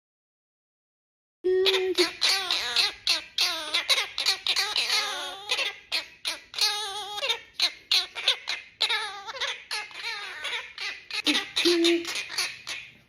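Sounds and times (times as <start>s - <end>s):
pet bird calls: 1.6s - 13.0s.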